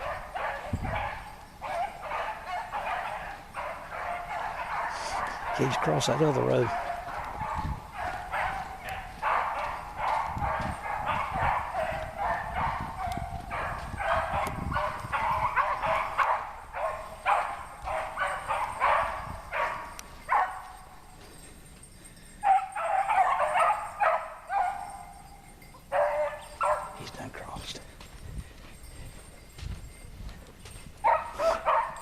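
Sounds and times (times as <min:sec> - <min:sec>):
hounds baying: 0:00.0 - 0:32.0.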